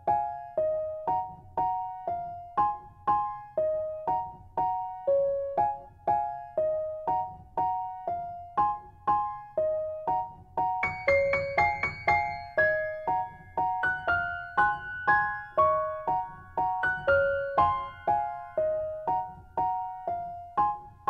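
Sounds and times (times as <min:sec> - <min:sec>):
gentle piano-like keyboard melody: 0:00.0 - 0:21.0.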